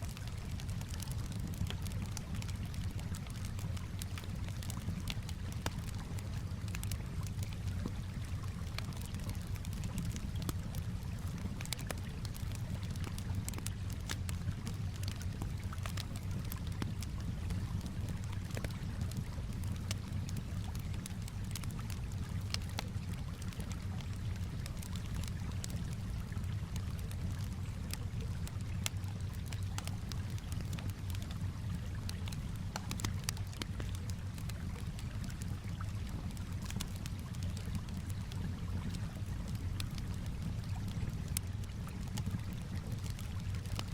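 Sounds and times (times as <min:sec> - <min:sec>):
calm water: 0:00.0 - 0:43.9
campfire crackling and popping: 0:00.0 - 0:43.9.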